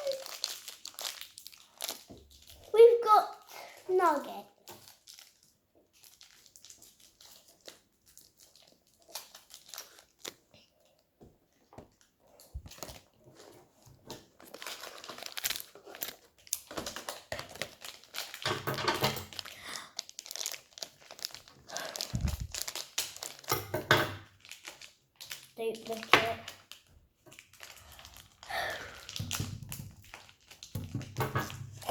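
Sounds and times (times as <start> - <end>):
plastic packaging crinkling and tearing: 0.0 - 11.0, 11.6 - 31.9.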